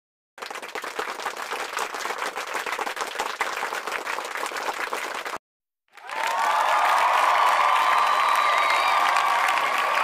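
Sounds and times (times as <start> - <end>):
applause: 0.4 - 10.0.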